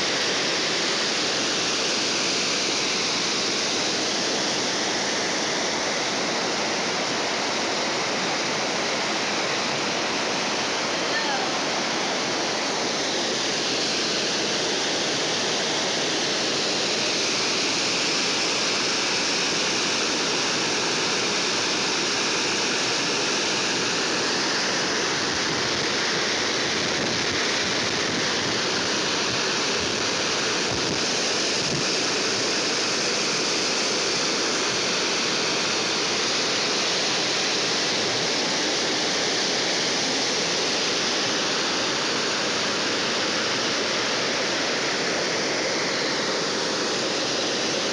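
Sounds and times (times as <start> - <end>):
river water rushing over weir: 0.0 - 47.9.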